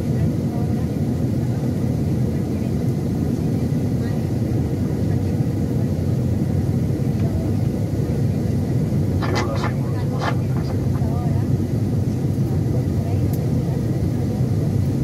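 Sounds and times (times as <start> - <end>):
jet engines: 0.0 - 15.0.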